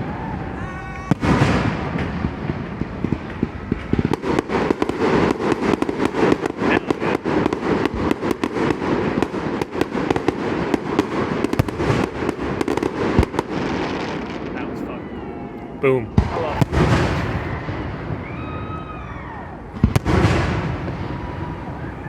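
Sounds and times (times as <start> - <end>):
fireworks bangs and crackles: 0.0 - 15.2, 16.1 - 22.0.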